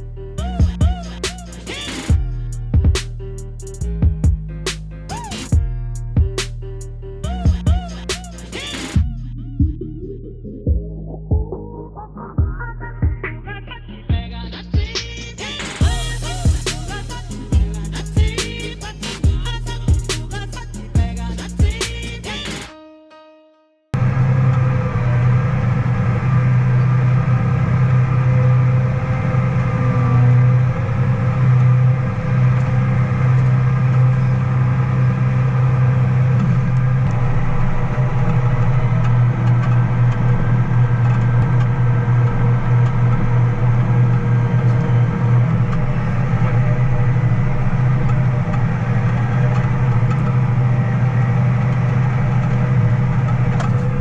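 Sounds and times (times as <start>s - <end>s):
diesel engine droning: 0.0s - 22.7s, 24.0s - 54.0s.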